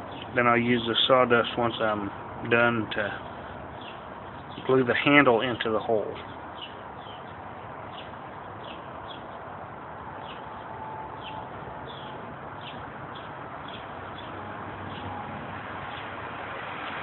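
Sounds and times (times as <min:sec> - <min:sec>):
small birds chirping: 0:00.0 - 0:15.2, 0:15.8 - 0:16.3.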